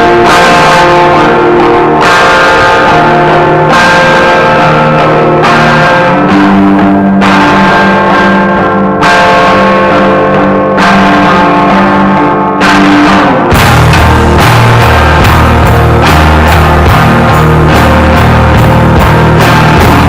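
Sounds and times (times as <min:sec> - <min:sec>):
electric guitar chords: 0:00.0 - 0:20.0.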